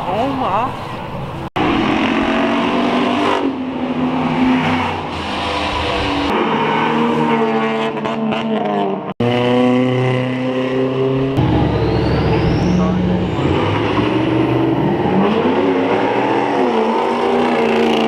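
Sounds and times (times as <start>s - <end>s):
race car engines revving: 0.8s - 18.0s.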